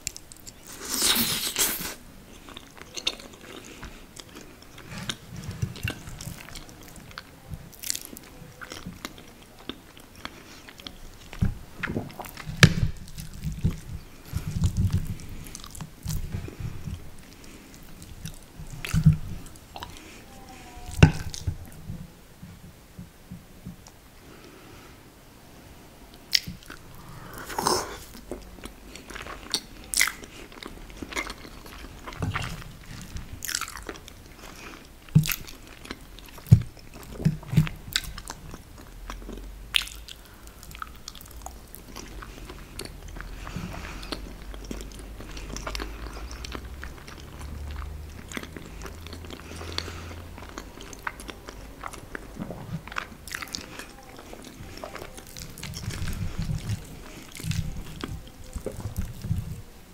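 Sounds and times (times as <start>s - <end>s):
wet chewing and mouth smacks: 0.0s - 21.9s, 26.1s - 59.7s.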